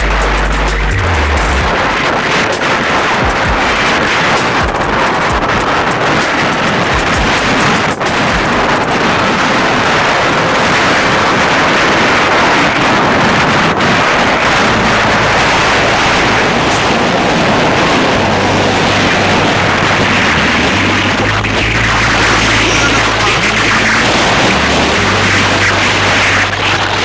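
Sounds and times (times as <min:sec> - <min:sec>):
road and engine noise: 0:00.0 - 0:27.0
wind rushing over microphone: 0:00.0 - 0:27.0.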